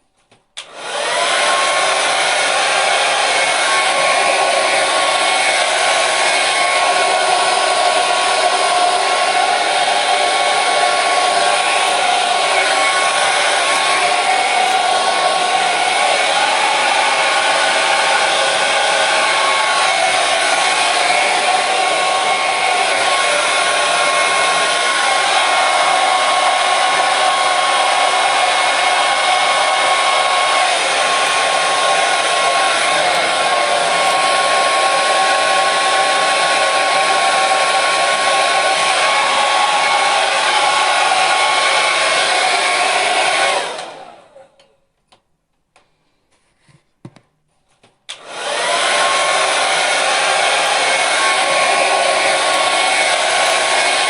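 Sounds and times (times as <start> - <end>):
hair dryer running: 0.6 - 44.7, 48.1 - 54.0.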